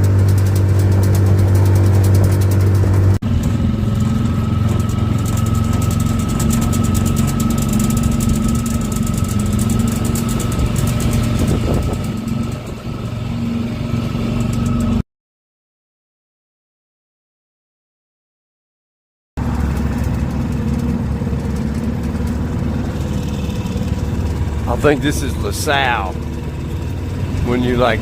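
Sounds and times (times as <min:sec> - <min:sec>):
outboard motor running: 0:00.0 - 0:15.0, 0:19.4 - 0:28.0.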